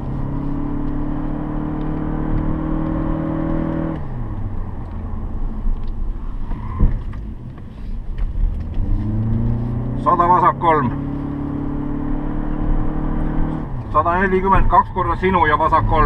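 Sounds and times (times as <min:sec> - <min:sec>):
car engine pulling hard: 0:00.0 - 0:16.0
road and tyre noise: 0:00.0 - 0:16.0.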